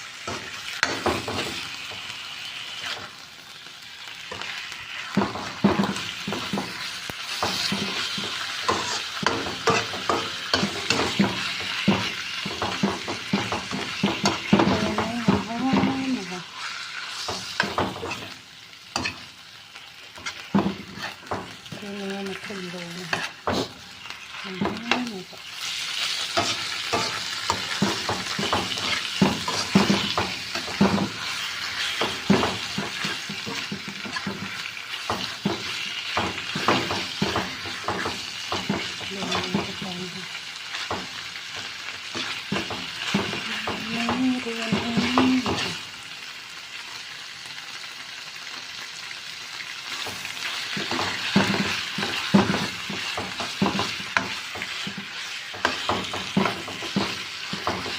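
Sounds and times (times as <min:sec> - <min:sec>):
meat sizzling in oil: 0:00.0 - 0:57.9
spatula scraping a pan: 0:00.2 - 0:03.2, 0:04.2 - 0:45.9, 0:49.8 - 0:57.9.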